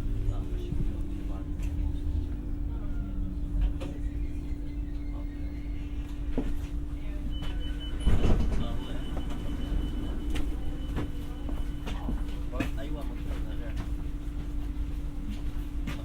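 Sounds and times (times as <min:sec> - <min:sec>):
train interior hum and drone: 0:00.0 - 0:16.0.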